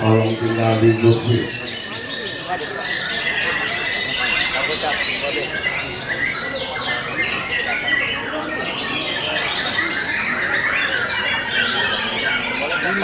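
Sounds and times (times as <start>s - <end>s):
many birds singing whistled phrases: 0.0s - 13.0s.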